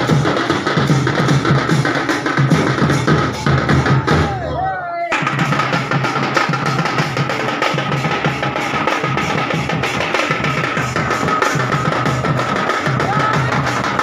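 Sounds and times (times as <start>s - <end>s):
drums beating fast: 0.0s - 14.0s.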